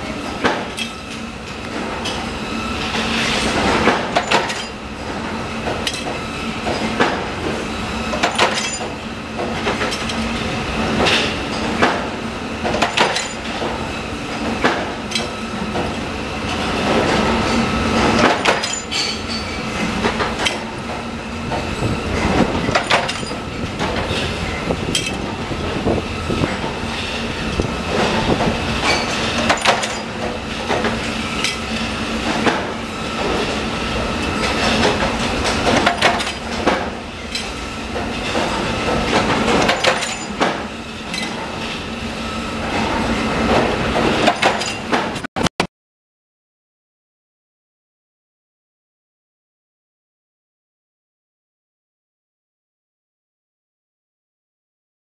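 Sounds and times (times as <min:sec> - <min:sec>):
punch press humming and clattering: 0:00.0 - 0:45.7.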